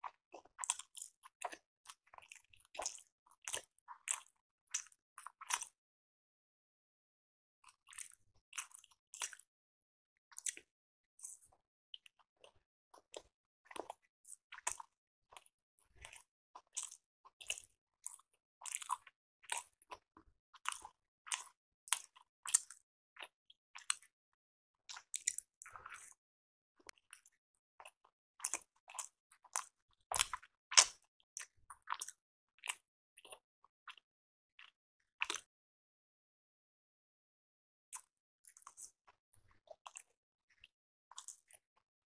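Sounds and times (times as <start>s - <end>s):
close-miked chewing and crunching: 0.0s - 5.8s, 7.6s - 9.5s, 10.3s - 24.2s, 24.8s - 35.5s, 37.9s - 42.0s.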